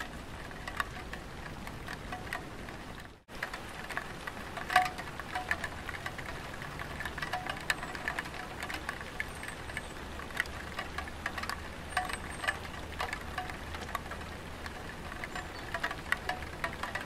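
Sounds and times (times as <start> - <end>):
rain dripping on tiled roof: 0.0 - 17.0.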